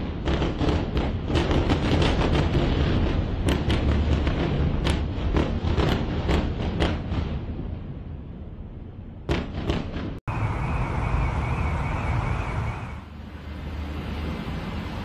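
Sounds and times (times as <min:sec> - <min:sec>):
heavy distant blasts: 0:00.0 - 0:15.0
traffic-like noise: 0:00.0 - 0:15.0.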